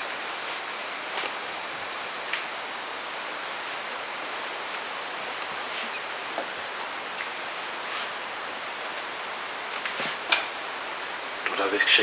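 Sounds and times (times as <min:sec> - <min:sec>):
static-like hiss: 0:00.0 - 0:12.0.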